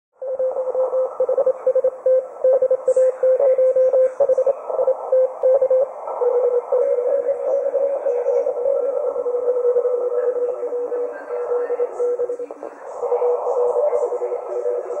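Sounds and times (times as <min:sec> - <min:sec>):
shortwave radio hiss: 0:00.2 - 0:15.0
morse code tone: 0:00.3 - 0:12.4.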